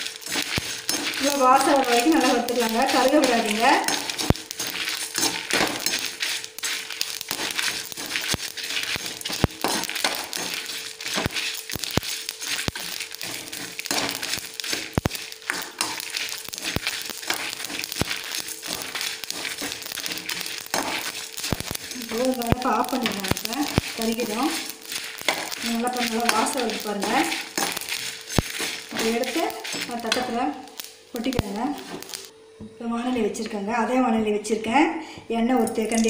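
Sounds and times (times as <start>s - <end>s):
seeds scraped over pan: 0.0s - 32.3s.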